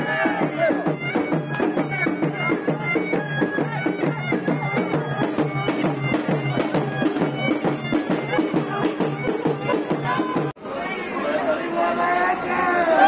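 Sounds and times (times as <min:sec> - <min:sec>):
fast drum beat: 0:00.0 - 0:10.6
reed pipe melody: 0:00.0 - 0:10.6.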